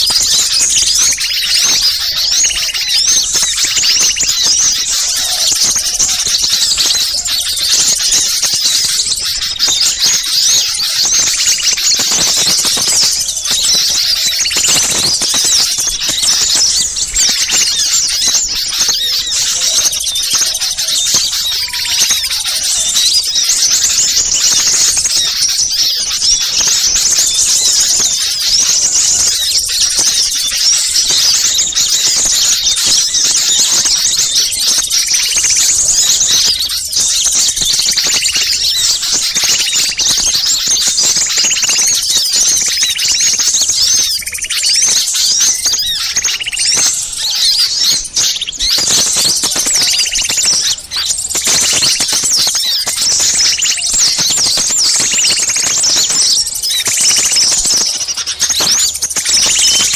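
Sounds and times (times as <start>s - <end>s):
small birds twittering: 0.0s - 59.9s.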